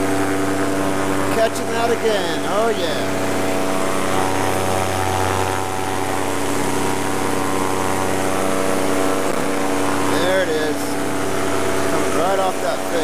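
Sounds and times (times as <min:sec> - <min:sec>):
paramotor engine and propeller drone: 0:00.0 - 0:13.0.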